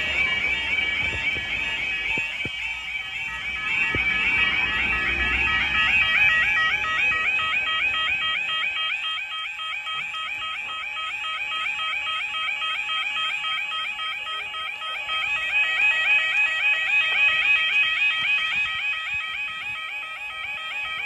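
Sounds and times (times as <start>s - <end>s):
level crossing warbling alarm: 0.0s - 21.0s.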